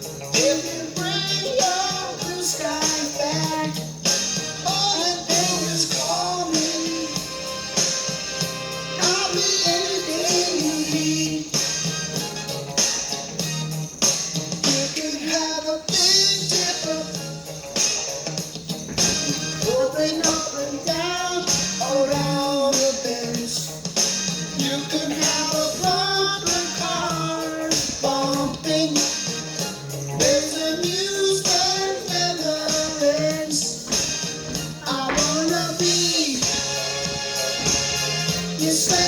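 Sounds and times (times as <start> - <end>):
tambourine: 0.0 - 39.0
upbeat funk rock music: 0.0 - 39.0.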